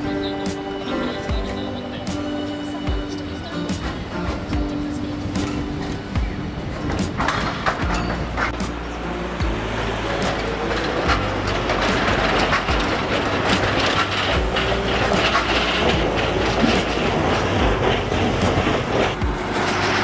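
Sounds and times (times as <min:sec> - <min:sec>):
tram running gear humming: 0:00.0 - 0:20.0
wheels clicking over rail joints: 0:00.0 - 0:20.0.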